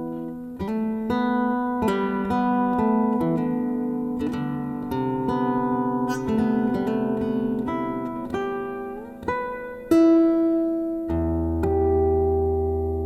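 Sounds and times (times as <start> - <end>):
plucked guitar notes: 0.0 - 13.0.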